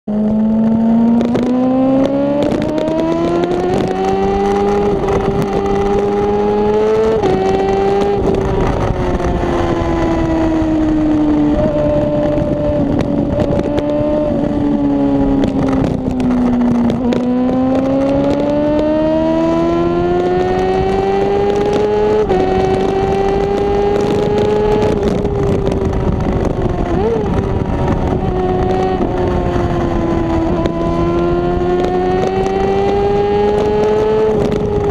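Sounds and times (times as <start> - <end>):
motorcycle engine accelerating: 0.0 - 34.9
wind rush: 0.1 - 34.9.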